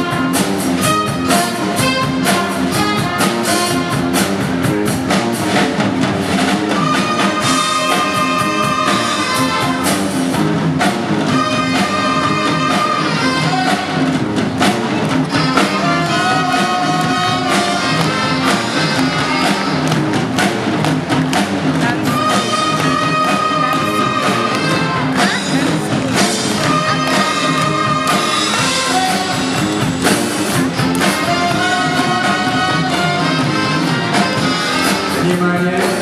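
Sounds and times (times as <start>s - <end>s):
busy drumbeat: 0.0s - 36.0s
instrumental band music: 0.0s - 36.0s.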